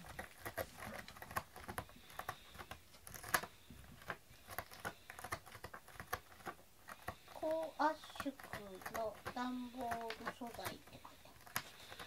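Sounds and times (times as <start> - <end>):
cat claws scratching cardboard: 0.0 - 12.0.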